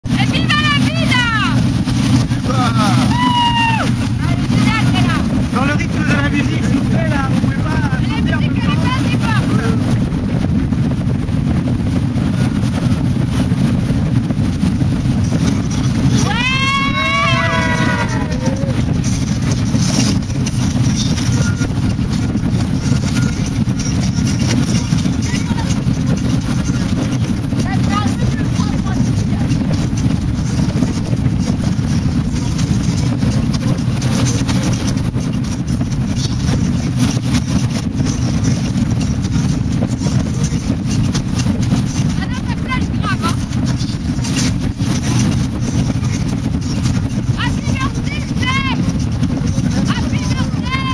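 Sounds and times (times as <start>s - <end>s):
motorboat engine rumbling: 0.0s - 50.9s
wind buffeting microphone: 0.0s - 50.9s.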